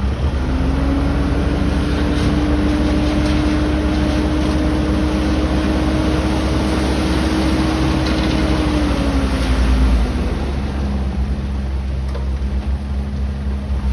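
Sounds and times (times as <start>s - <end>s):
excavator diesel engine rumbling: 0.0s - 13.9s.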